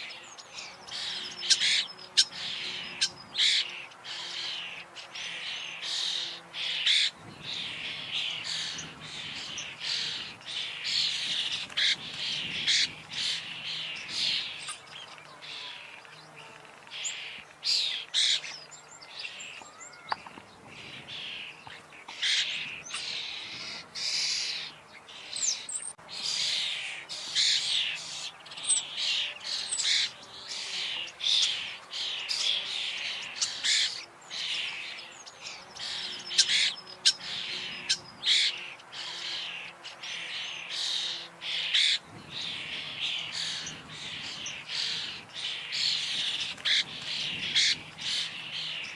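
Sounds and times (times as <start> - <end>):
starlings chirping and squawking: 0.0 - 48.9.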